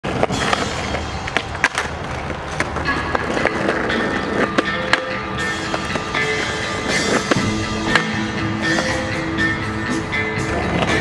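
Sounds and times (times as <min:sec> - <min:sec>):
music playing: 0:00.0 - 0:11.0
skateboard wheels rolling on concrete: 0:00.0 - 0:11.0
skateboard sharp clacks: 0:00.1 - 0:09.2, 0:10.4 - 0:11.0.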